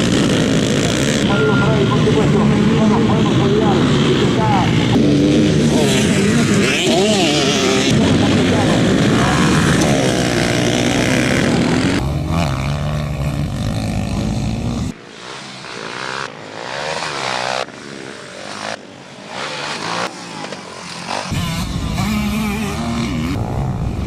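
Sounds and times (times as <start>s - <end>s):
off-road engines revving: 0.0s - 24.0s.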